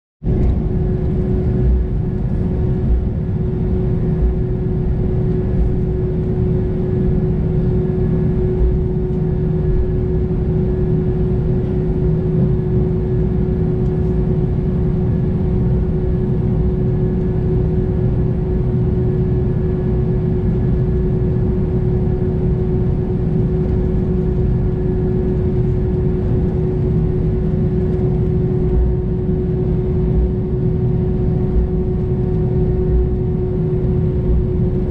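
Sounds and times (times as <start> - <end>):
airliner cabin low rumble: 0.2 - 34.9
jet engine whine: 0.2 - 34.9.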